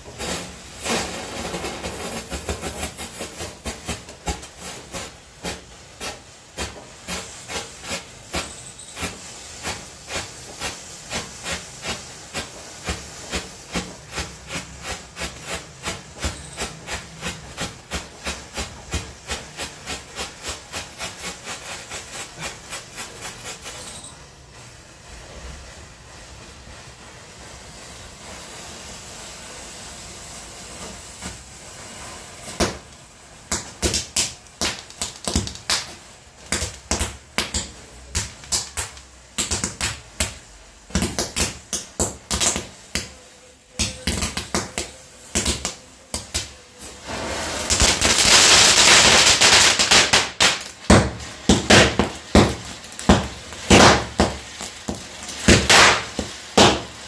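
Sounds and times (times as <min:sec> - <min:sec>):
dense firecracker crackling: 0:00.0 - 0:57.0
firecrackers popping: 0:00.0 - 0:57.0
steady hiss: 0:00.0 - 0:57.0.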